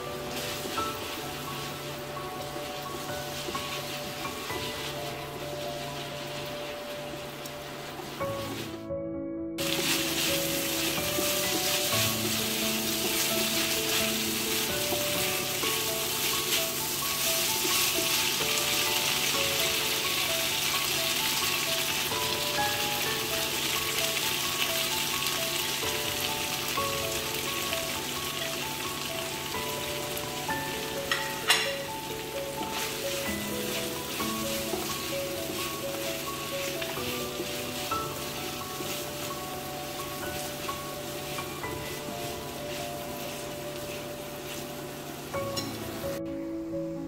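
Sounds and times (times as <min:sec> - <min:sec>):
tofu sizzling in hot oil: 0:00.0 - 0:08.8, 0:09.6 - 0:46.2
soft background music: 0:00.0 - 0:47.0.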